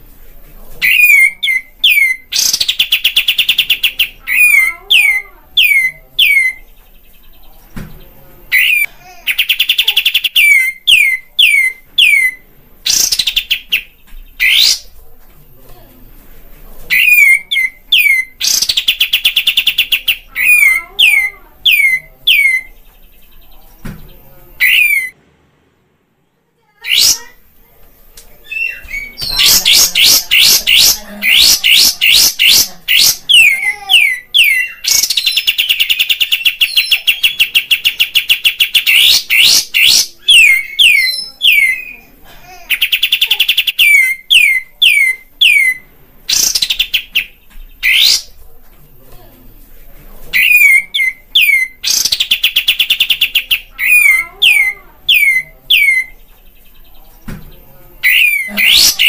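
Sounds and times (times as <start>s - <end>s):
bulbul singing: 0.8s - 15.0s, 16.9s - 25.2s, 28.4s - 48.4s, 50.3s - 59.0s.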